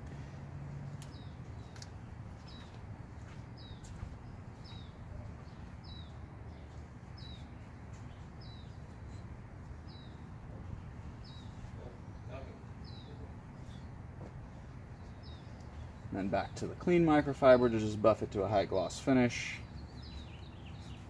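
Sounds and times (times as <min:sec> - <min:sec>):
bird chirping: 0:01.0 - 0:21.0.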